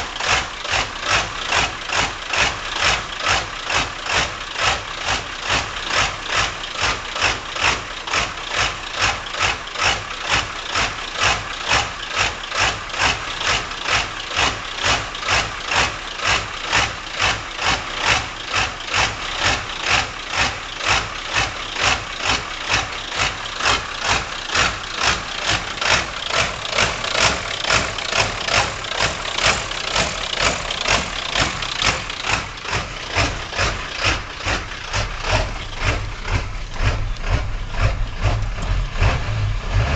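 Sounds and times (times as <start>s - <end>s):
diesel engine idling roughly: 0.0s - 39.9s.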